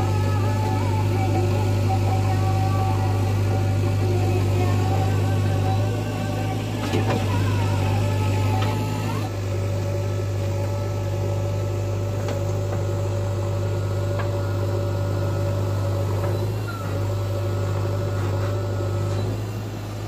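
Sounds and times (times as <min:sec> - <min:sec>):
diesel engine running under load: 0:00.0 - 0:20.0
hydraulic whine: 0:00.0 - 0:20.0.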